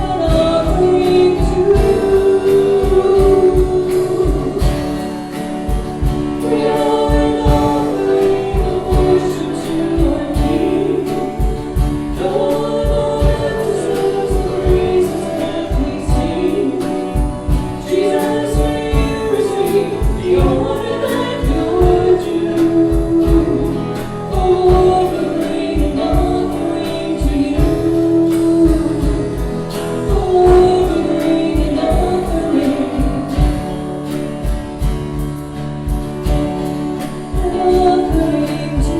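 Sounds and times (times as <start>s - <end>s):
band playing steady beat: 0.0s - 38.9s
group singing worship song: 0.0s - 38.9s.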